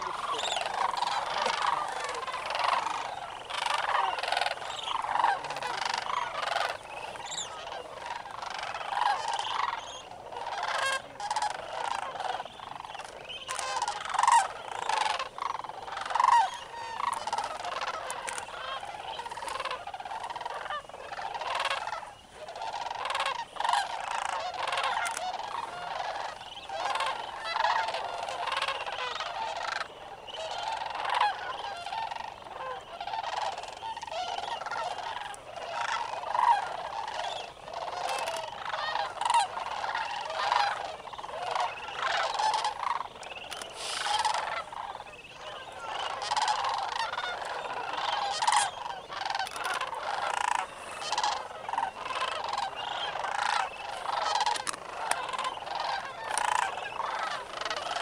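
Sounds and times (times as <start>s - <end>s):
flock of cranes calling: 0.0s - 58.0s.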